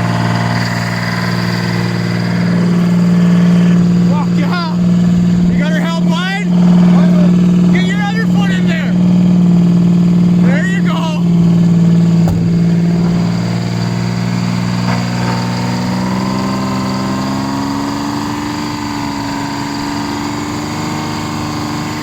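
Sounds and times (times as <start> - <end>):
big diesel engine running: 0.0 - 22.0.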